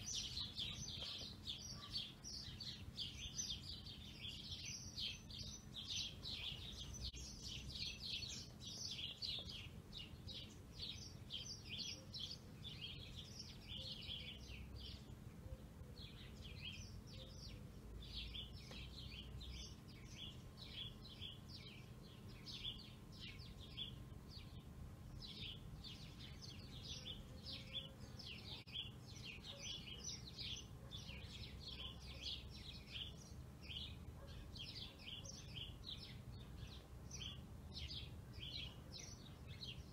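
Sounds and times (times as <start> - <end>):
low steady hum: 0.0 - 39.9
small birds chirping: 0.0 - 39.9.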